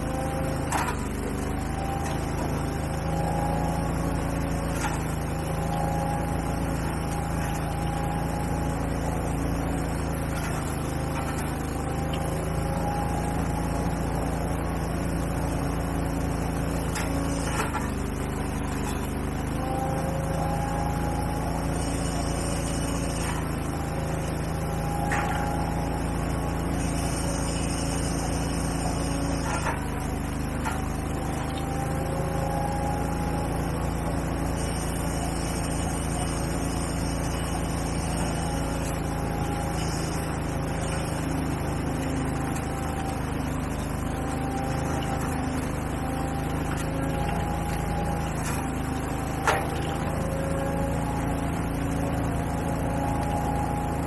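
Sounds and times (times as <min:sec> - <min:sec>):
gas-engine machinery running: 0:00.0 - 0:54.0
machine whine: 0:00.0 - 0:54.0.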